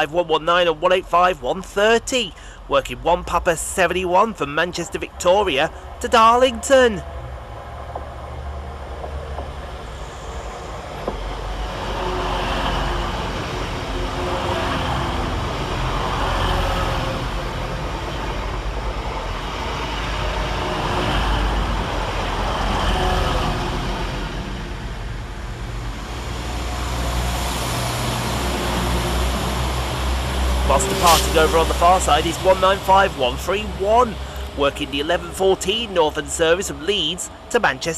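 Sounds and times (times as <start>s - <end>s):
train engines and running gear rumbling: 0.0s - 37.9s.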